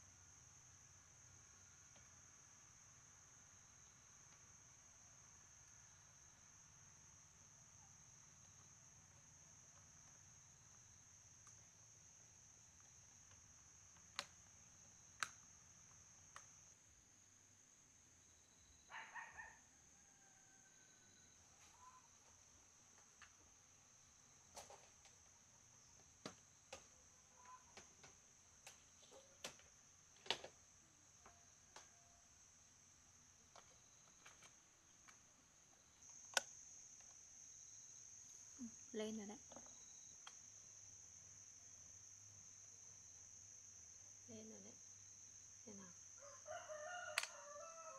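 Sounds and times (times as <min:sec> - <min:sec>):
faint insect drone: 0:00.0 - 0:47.9.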